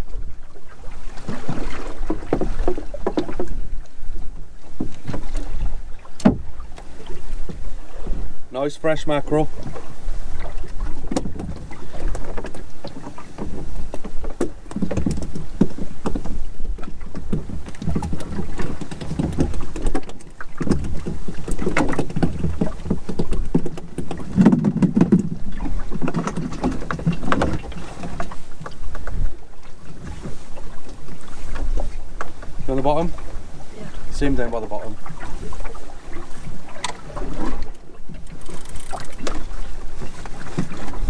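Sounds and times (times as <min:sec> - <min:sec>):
water sloshing against boat hull: 0:00.0 - 0:41.0.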